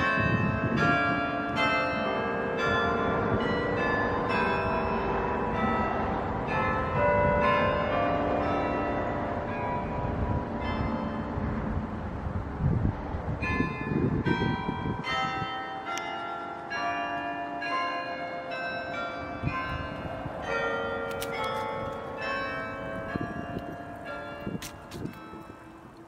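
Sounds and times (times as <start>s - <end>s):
church bells ringing: 0.0s - 12.0s, 13.4s - 26.0s.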